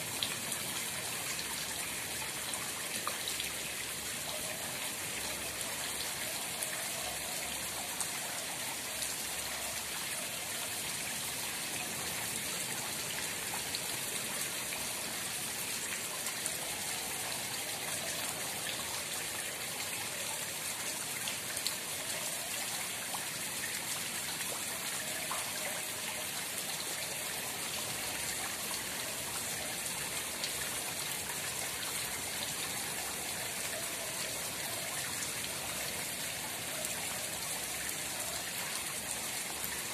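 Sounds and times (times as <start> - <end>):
pond water splashing and trickling: 0.0 - 39.9.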